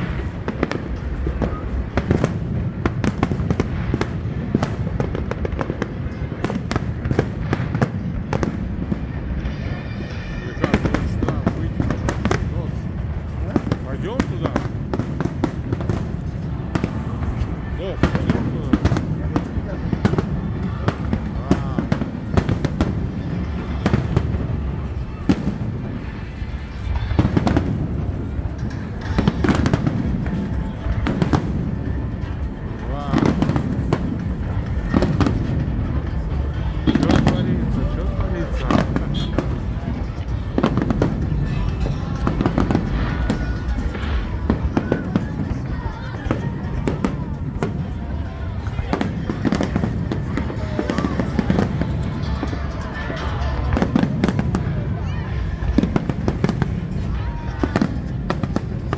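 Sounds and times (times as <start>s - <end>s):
distant explosions rumbling: 0.0s - 58.9s
fireworks bangs and crackles: 0.0s - 58.9s
music playing: 0.0s - 58.9s.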